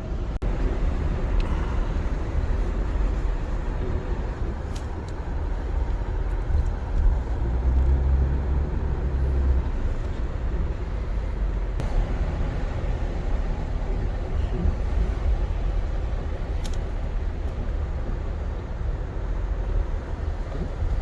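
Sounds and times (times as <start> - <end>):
car road noise from cabin: 0.0 - 21.0.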